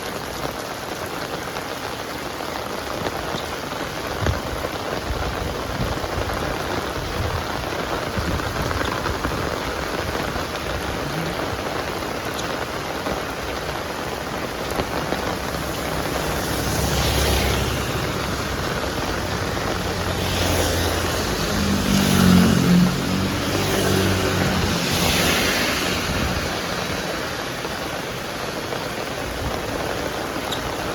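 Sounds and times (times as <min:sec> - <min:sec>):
heavy rain: 0:00.0 - 0:30.9
wind gusts rumbling: 0:03.8 - 0:30.9.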